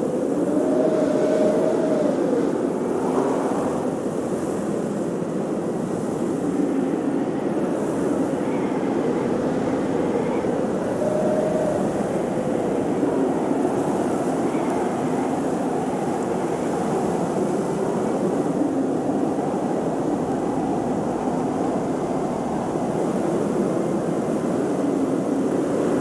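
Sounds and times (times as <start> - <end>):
snowstorm wind whistling: 0.0 - 26.0.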